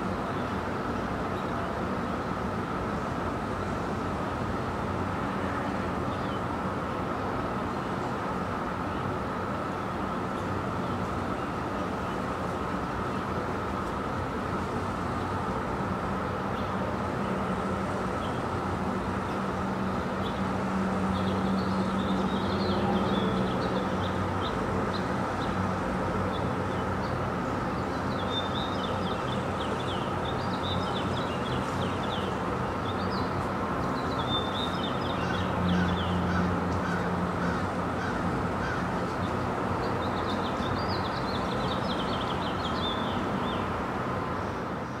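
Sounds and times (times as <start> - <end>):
distant road traffic hum: 0.0 - 45.0.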